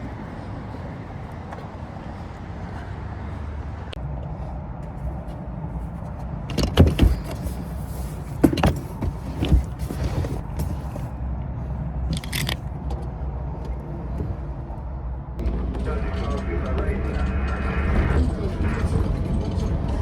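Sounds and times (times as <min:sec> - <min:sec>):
car low rumble: 0:00.0 - 0:20.0.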